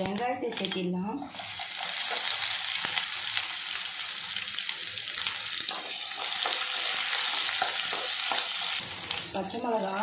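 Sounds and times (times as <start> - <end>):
onions sizzling in hot oil: 1.2 - 10.0.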